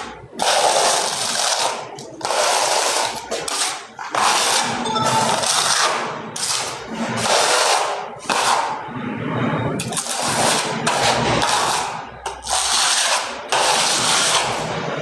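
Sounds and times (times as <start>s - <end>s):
tool rasping and scraping: 0.0s - 8.8s, 9.8s - 14.8s.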